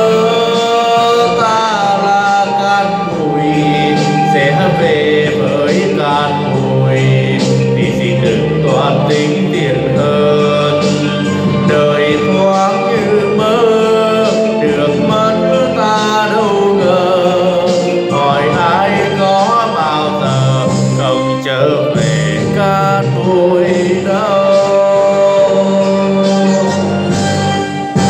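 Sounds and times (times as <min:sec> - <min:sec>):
karaoke backing track: 0:00.0 - 0:28.0
man singing into a microphone: 0:00.0 - 0:28.0.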